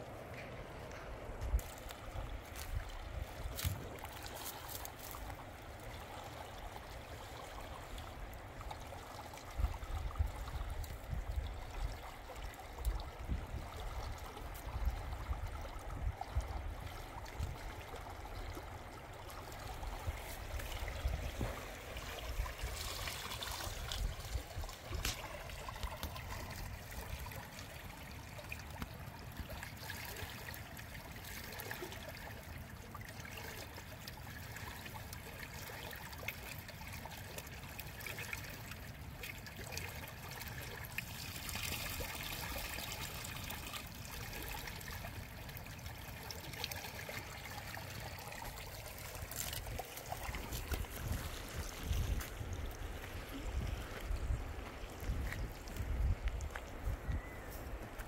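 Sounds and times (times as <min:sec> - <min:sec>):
water running in channel: 0:00.0 - 0:58.0.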